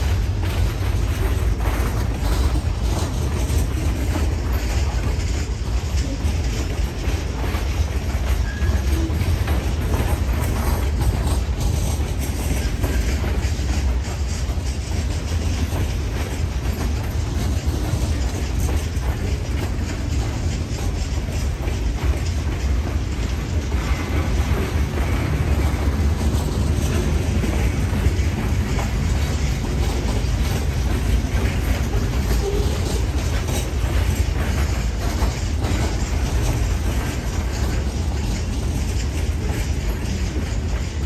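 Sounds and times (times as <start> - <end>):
train wheels rumbling on rails: 0.0 - 41.0
wheels clickety-clack over joints: 0.0 - 41.0.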